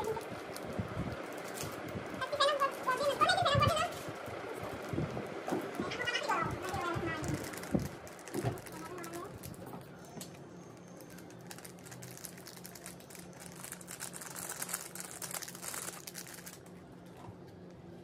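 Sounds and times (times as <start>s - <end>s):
plastic sachets crinkling: 0.0s - 16.8s.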